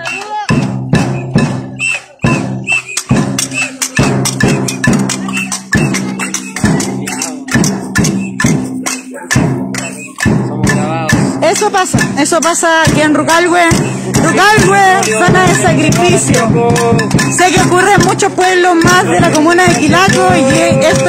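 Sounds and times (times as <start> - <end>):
rhythmic percussion strikes: 0.0 - 21.0.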